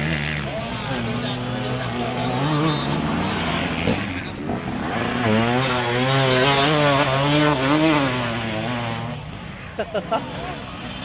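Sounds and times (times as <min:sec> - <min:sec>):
louder bike engine: 0:00.0 - 0:11.0
motocross bike engines racing: 0:00.0 - 0:11.0.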